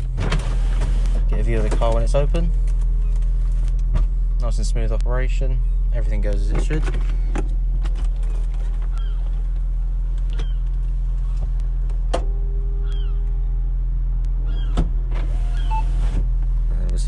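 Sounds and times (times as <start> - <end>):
low hum: 0.0 - 17.0
roof mechanism whine: 0.0 - 17.0.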